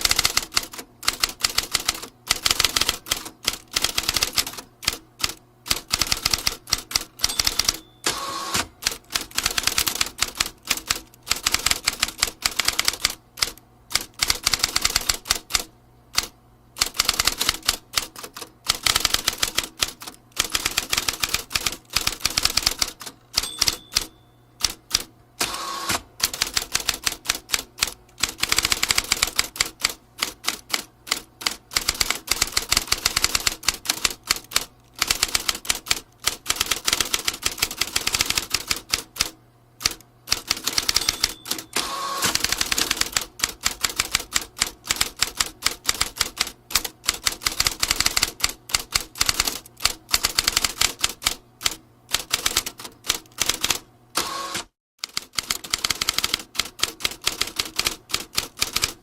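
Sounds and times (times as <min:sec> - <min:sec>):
typewriter keys clacking: 0:00.0 - 0:08.0, 0:08.8 - 0:25.1, 0:26.2 - 0:53.8, 0:55.0 - 0:59.0.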